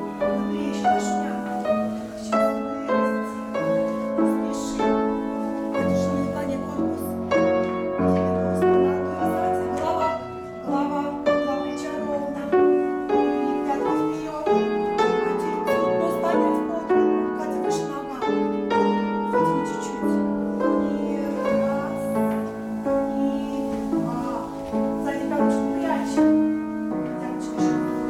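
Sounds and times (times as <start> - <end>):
piano accompaniment: 0.0 - 28.0.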